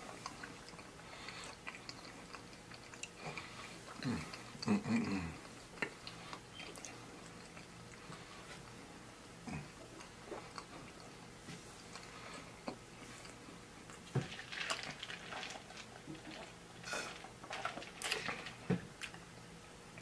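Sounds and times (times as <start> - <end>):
chewing with mouth clicks: 0.0 - 8.8, 9.5 - 11.2, 11.8 - 18.3.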